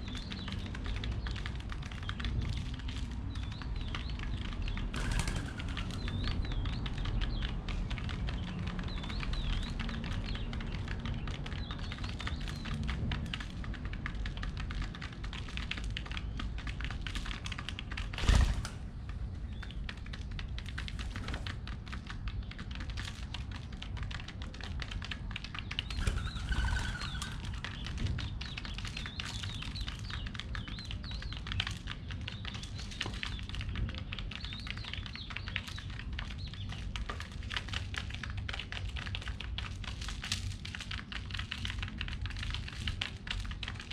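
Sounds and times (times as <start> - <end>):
pigeons pecking seeds: 0.0 - 43.9
small birds chirping: 0.0 - 43.9.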